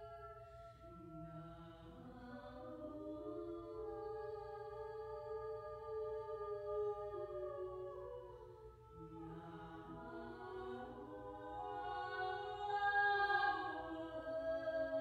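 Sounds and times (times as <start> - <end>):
women singing held notes: 0.0 - 15.0.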